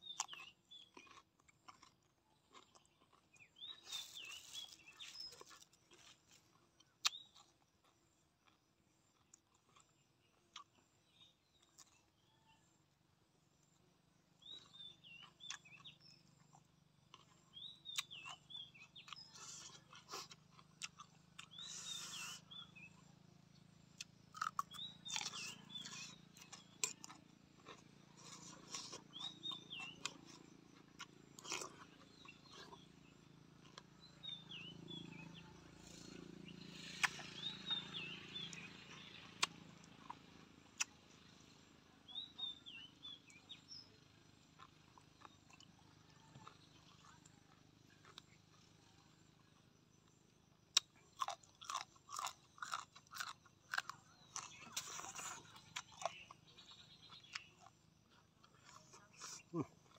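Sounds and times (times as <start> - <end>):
wet chewing and smacks: 0.0 - 12.4, 13.6 - 41.4, 42.4 - 59.9.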